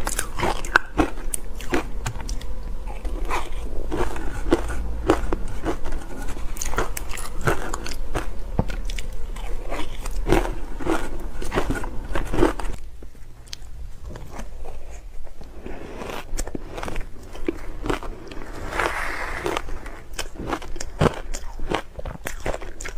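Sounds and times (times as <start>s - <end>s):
ice being chewed: 0.0s - 12.8s, 13.4s - 22.9s.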